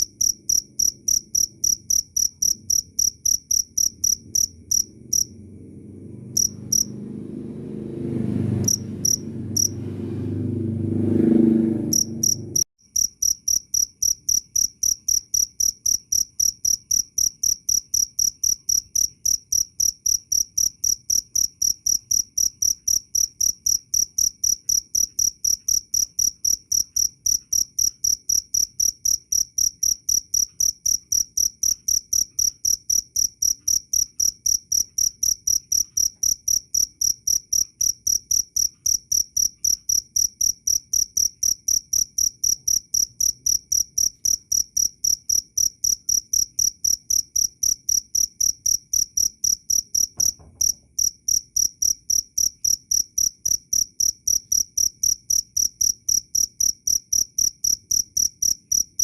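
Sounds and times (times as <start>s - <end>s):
cricket chirping: 0.0s - 7.1s, 8.4s - 9.8s, 11.9s - 59.0s.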